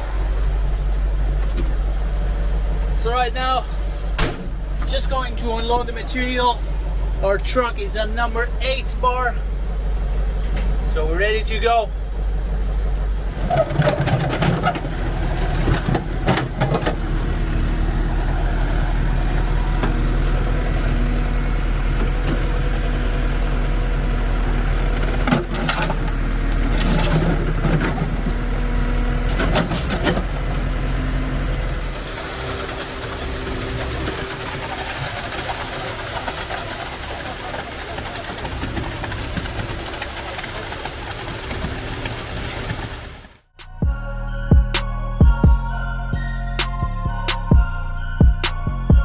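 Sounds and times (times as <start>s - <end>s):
truck engine droning: 0.0s - 49.0s.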